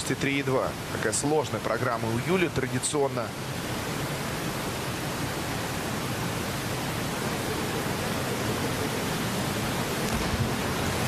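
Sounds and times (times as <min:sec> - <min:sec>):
indoor pool hall hiss: 0:00.0 - 0:11.0.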